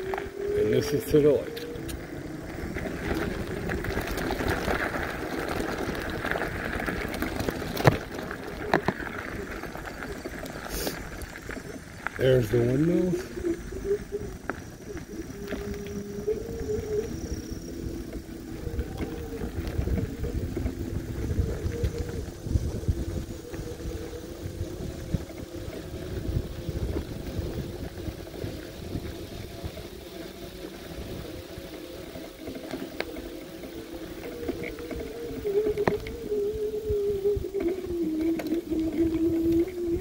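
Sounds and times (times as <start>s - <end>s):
electric bike motor whining: 0.0s - 40.0s
low rumble over dirt track: 0.0s - 40.0s.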